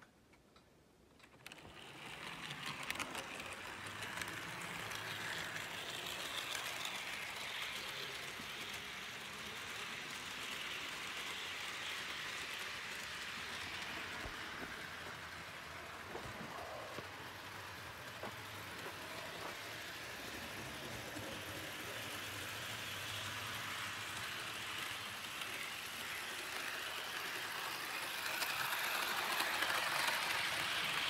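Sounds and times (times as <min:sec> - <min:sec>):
model train rattling on track: 0:01.2 - 0:31.0.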